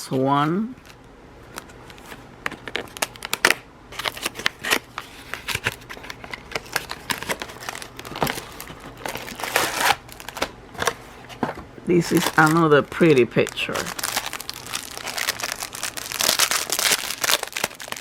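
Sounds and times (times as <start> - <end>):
packaging crinkling and rustling: 0.8 - 18.0.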